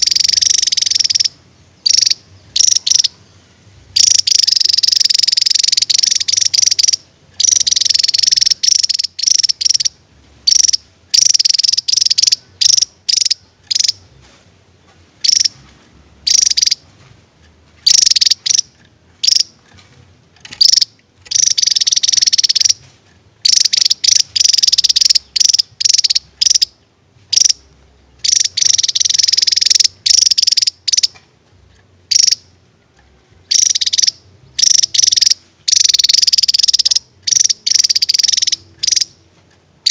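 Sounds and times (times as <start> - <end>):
bird singing rapid trills: 0.0 - 14.2, 15.2 - 15.6, 16.2 - 16.8, 17.8 - 19.6, 20.5 - 22.8, 23.4 - 31.2, 32.1 - 32.5, 33.4 - 39.2.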